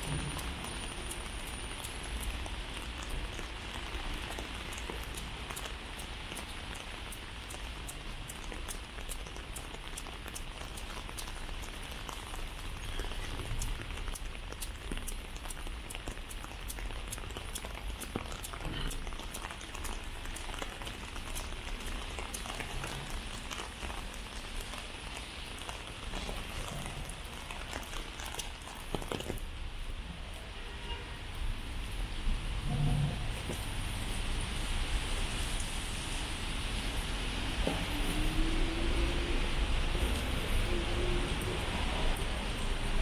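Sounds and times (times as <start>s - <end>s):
close raindrop ticks: 0.0s - 30.5s, 33.4s - 43.0s
heavy rain on pavement: 0.0s - 43.0s.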